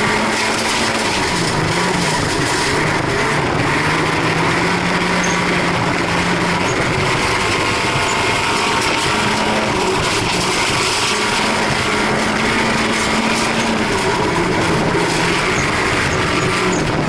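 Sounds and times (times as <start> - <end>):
car engine running hard: 0.0 - 17.0
rush of moving car noise: 0.0 - 17.0.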